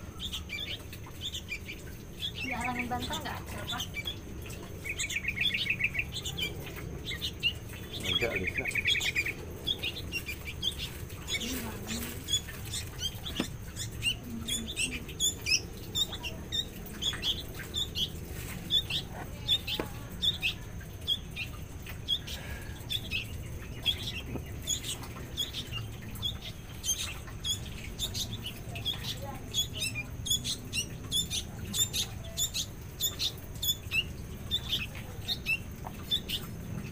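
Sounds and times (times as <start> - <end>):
small songbirds chirping: 0.0 - 36.9.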